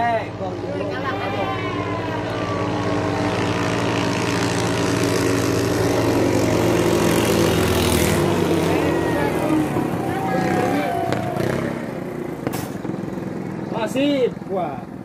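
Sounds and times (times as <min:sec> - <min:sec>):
boat engine at high revs: 0:00.0 - 0:15.0.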